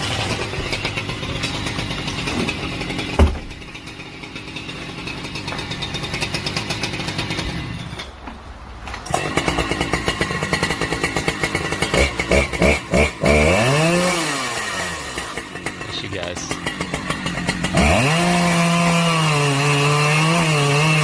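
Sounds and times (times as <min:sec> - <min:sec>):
chainsaw engine revving: 0:00.0 - 0:08.0, 0:09.1 - 0:21.0.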